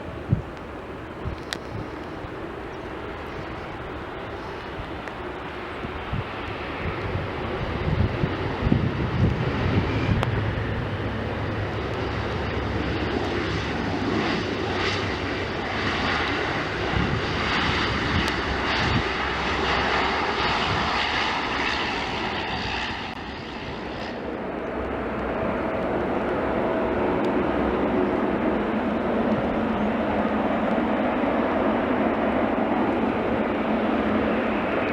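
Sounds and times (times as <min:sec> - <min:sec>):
airliner engines roaring: 0:00.0 - 0:34.9.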